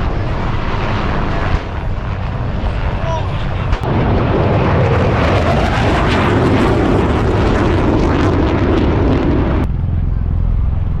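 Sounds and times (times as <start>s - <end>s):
aircraft engine rushing: 0.0s - 11.0s.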